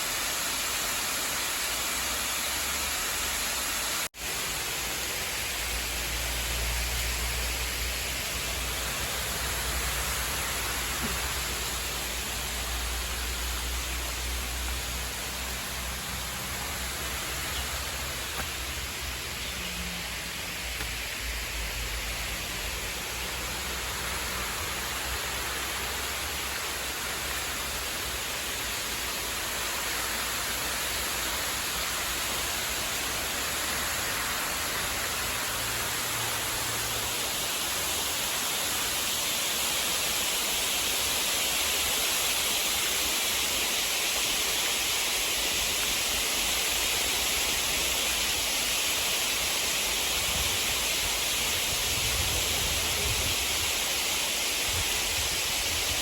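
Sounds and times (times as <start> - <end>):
steady rushing outdoor noise: 0.0 - 56.0.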